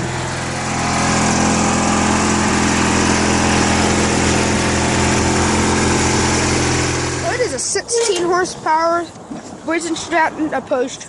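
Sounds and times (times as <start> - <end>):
tractor engine running: 0.0 - 9.2.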